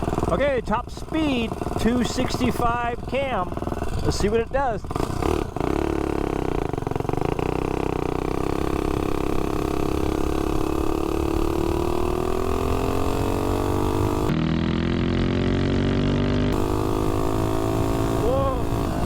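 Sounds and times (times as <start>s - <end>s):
mini bike engine at full throttle: 0.0s - 19.0s.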